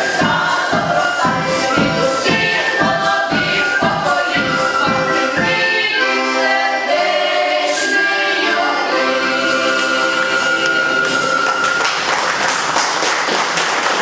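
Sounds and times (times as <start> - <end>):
choir singing: 0.0 - 12.4
instrumental backing: 0.0 - 12.8.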